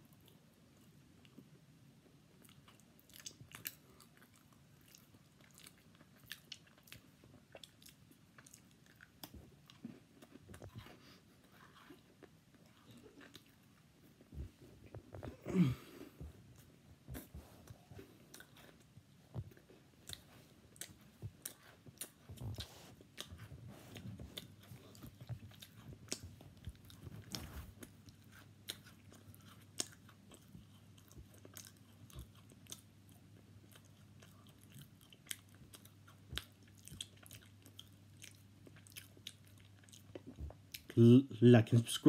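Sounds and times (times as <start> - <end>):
person chewing crunchy cookies: 0.0 - 41.0.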